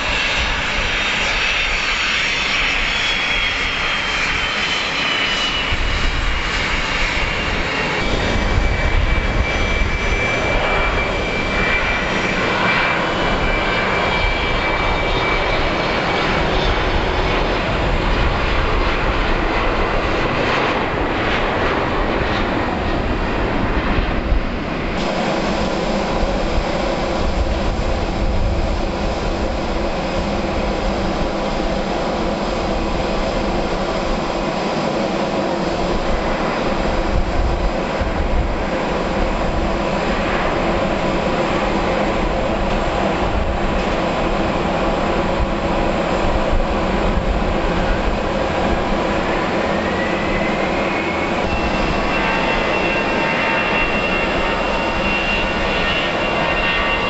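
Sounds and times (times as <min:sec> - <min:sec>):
high turbine whine: 0:00.0 - 0:57.0
jet engines running: 0:00.0 - 0:57.0.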